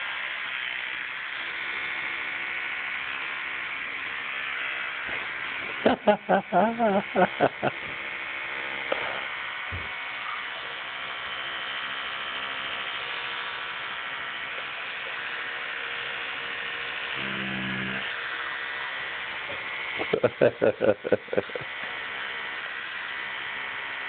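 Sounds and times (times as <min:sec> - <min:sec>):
electric toothbrush buzzing: 0:00.0 - 0:24.0.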